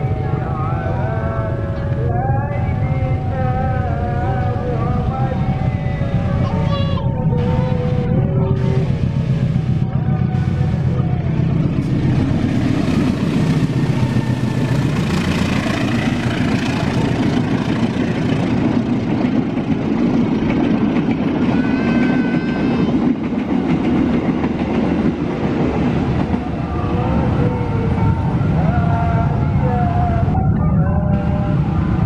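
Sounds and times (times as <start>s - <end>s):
coaches rumbling over rails: 0.0s - 32.0s
diesel locomotive engine: 0.0s - 32.0s.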